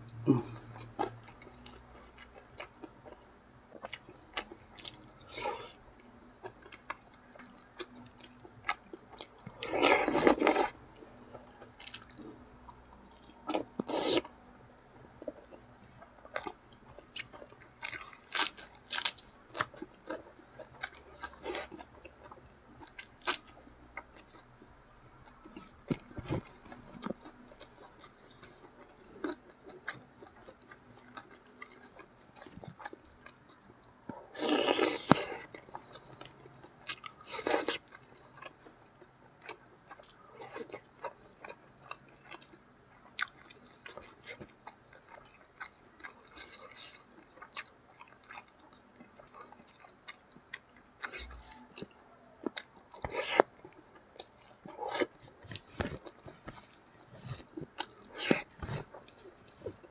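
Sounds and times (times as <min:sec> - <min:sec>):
person chewing: 0:00.1 - 0:05.8, 0:06.4 - 0:14.3, 0:16.2 - 0:24.4, 0:25.2 - 0:38.7, 0:39.4 - 0:59.9.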